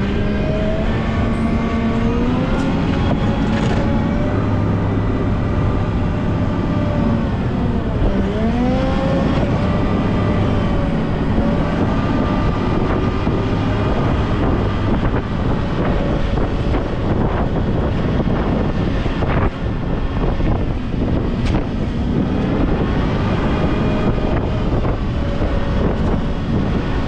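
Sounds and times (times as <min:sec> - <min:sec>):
diesel engine running hard: 0:00.0 - 0:27.0
steady noisy rush: 0:00.0 - 0:27.0.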